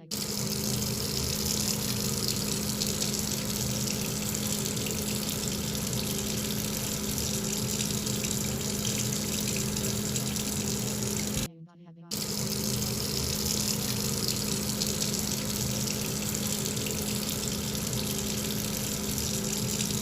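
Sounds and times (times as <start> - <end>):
low steady hum: 0.0 - 11.5, 12.1 - 20.0
running water: 0.0 - 11.5, 12.1 - 20.0.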